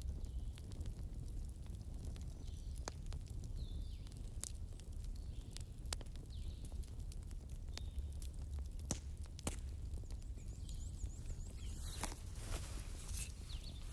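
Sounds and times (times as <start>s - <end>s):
campfire crackling and popping: 0.0s - 13.9s.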